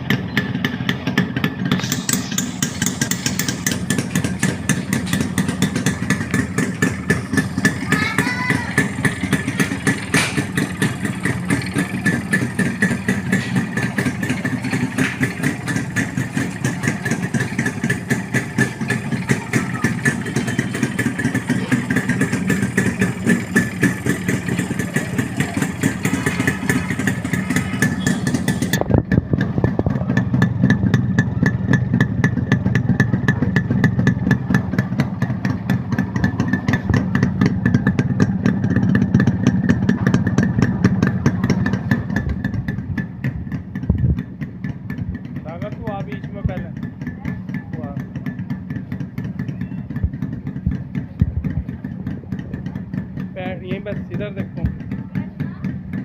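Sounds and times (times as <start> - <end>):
two-stroke motorcycle engine idling: 0.0 - 56.0.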